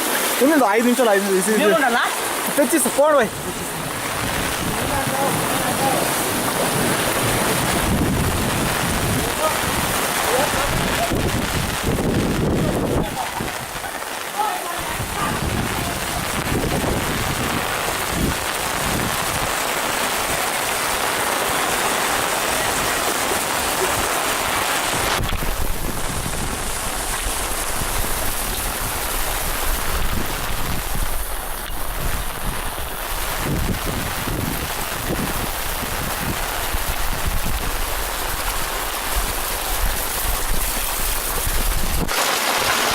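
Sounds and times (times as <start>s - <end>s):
heavy rain falling: 0.0s - 42.9s
wind rumble on microphone: 3.3s - 13.9s, 14.8s - 20.4s, 23.8s - 42.2s.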